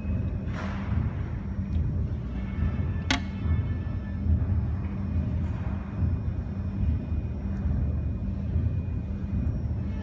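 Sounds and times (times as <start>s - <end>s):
low rumble with hum: 0.0s - 10.0s.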